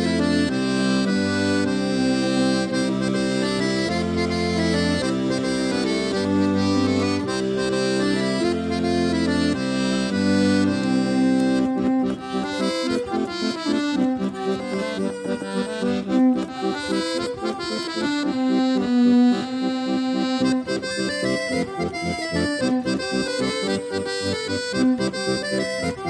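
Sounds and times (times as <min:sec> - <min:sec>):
folk band playing instrumental: 0:00.0 - 0:26.0.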